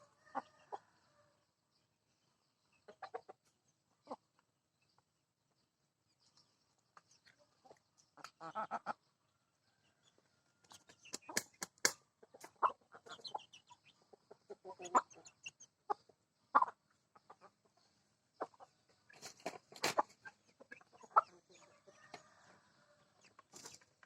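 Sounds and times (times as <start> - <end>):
chickens clucking: 0.0 - 1.4, 2.1 - 5.1, 6.2 - 24.0.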